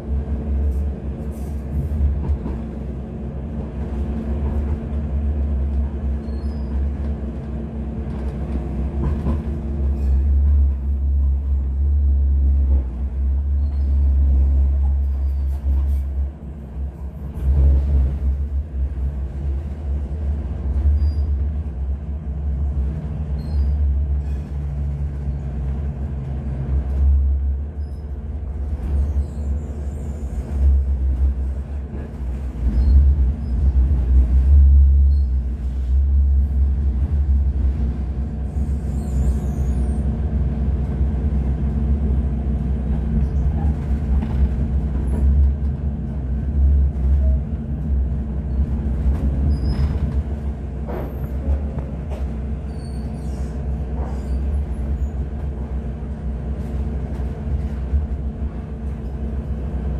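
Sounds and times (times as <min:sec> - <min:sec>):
tram rumbling on track: 0:00.0 - 0:59.9.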